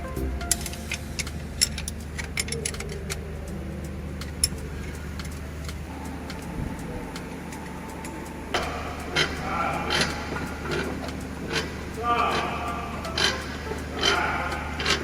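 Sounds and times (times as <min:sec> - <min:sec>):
car engine humming: 0:00.0 - 0:15.0
engine ticking: 0:00.0 - 0:15.0.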